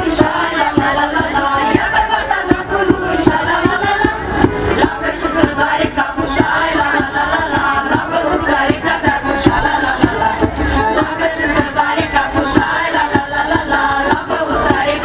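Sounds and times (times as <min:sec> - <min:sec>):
accordion: 0:00.0 - 0:15.0
choir singing: 0:00.0 - 0:15.0
low pulsing beat: 0:00.0 - 0:15.0.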